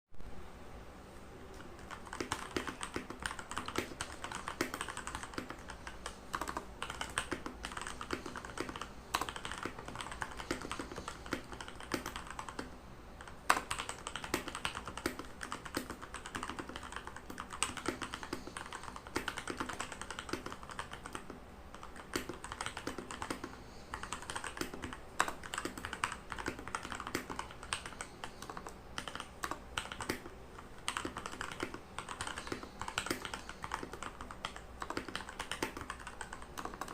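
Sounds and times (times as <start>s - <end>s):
mechanical keyboard typing: 1.7s - 36.9s.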